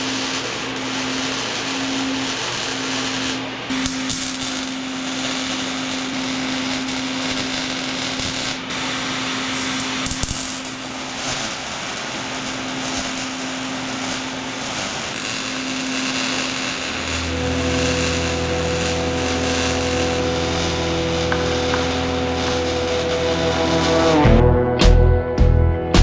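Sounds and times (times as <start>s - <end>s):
angle grinder grinding steel: 0.0s - 24.4s.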